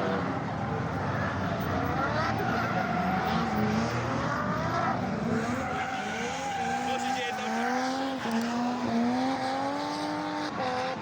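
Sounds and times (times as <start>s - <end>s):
car engines revving high: 0.0s - 11.0s
tyres skidding: 0.0s - 11.0s.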